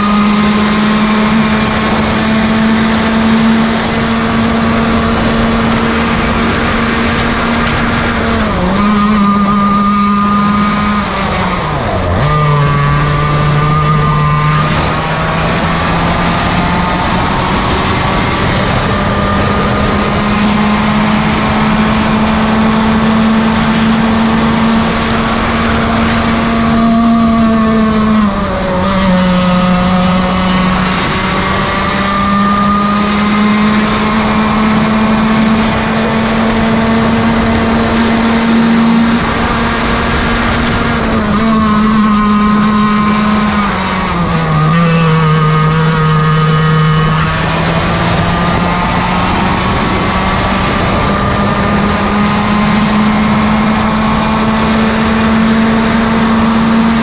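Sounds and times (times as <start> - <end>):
kart engine at high revs: 0.0 - 57.0
other kart engines: 0.0 - 57.0.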